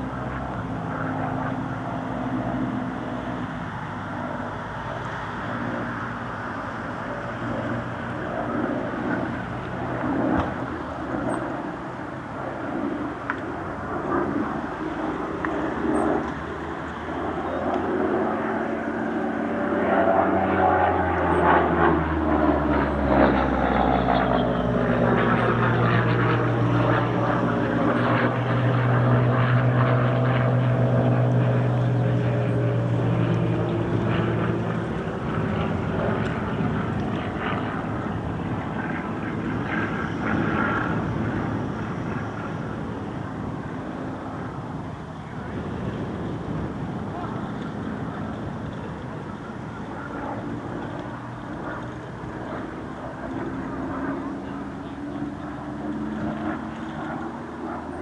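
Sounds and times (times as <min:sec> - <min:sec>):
piston aircraft engine droning: 0:00.0 - 0:58.0.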